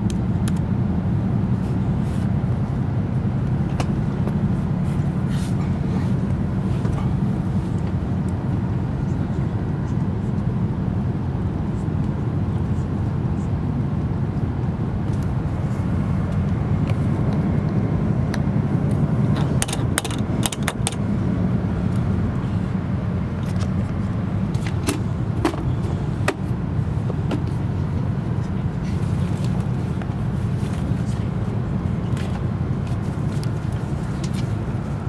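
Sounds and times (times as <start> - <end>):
train low rumble: 0.0 - 35.0.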